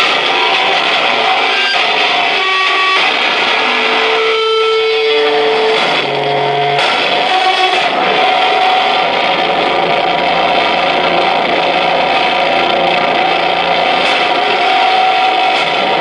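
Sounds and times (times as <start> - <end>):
harsh noise music: 0.0 - 16.0
low rumble: 0.0 - 16.0.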